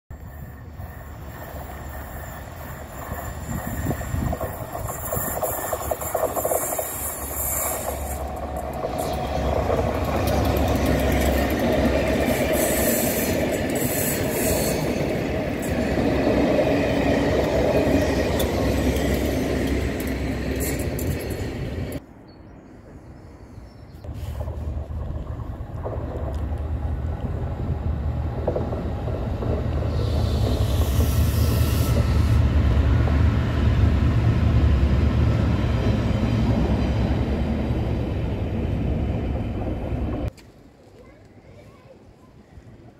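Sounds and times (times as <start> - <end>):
locomotive engine drone: 0.1 - 23.3, 24.1 - 40.3
diesel train passing: 0.1 - 40.3.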